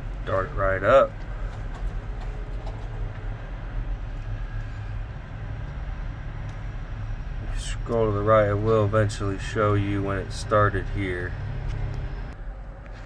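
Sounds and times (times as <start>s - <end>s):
truck engine idling: 0.0s - 12.8s.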